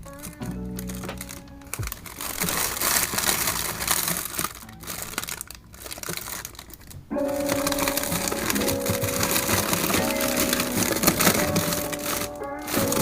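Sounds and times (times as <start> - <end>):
plastic packaging crinkling: 0.0 - 13.0
soft background music: 0.0 - 13.0.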